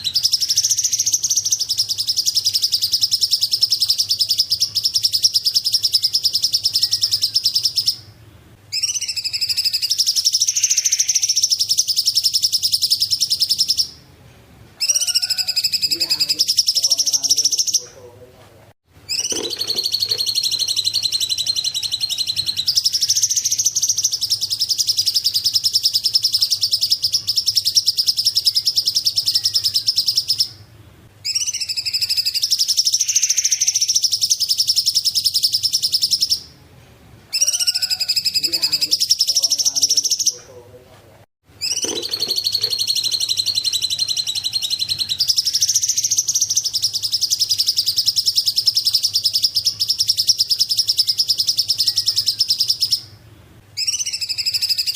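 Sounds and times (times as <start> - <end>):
songbird chattering trill: 0.0 - 8.1, 8.7 - 14.0, 14.8 - 18.1, 19.1 - 30.6, 31.2 - 36.5, 37.3 - 40.5, 41.6 - 53.1, 53.8 - 54.9.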